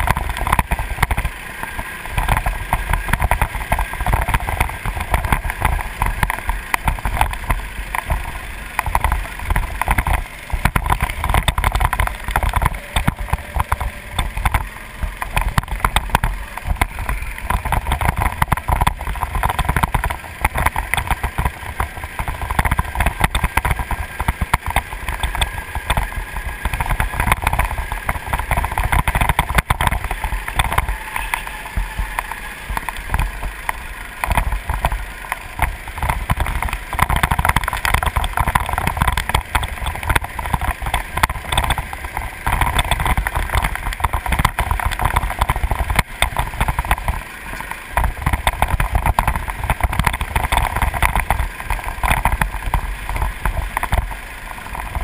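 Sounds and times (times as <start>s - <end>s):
go-kart engine running: 0.0s - 55.0s
wind buffeting microphone: 2.0s - 55.0s.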